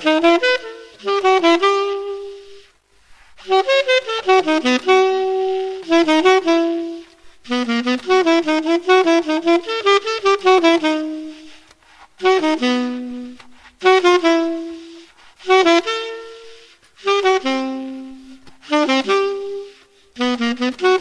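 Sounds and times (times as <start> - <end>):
saxophone melody: 0.0 - 2.8, 3.4 - 21.0.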